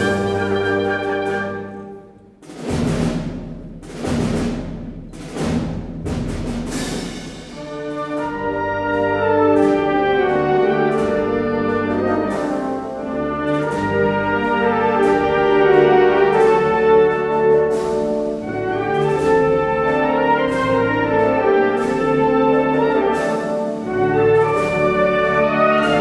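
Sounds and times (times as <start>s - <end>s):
brass chords: 0.0s - 2.9s, 7.4s - 26.0s.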